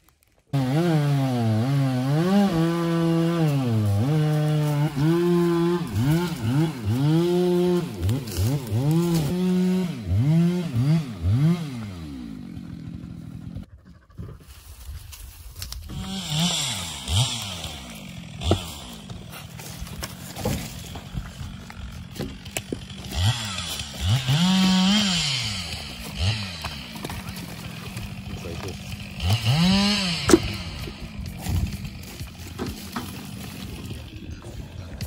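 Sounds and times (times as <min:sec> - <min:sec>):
chainsaw revving: 0:00.5 - 0:13.7, 0:15.8 - 0:35.0.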